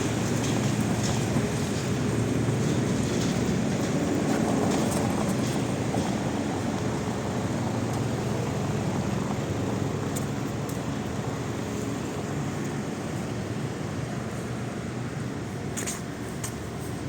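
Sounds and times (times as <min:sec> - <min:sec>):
low drone of running engines: 0:00.0 - 0:17.0.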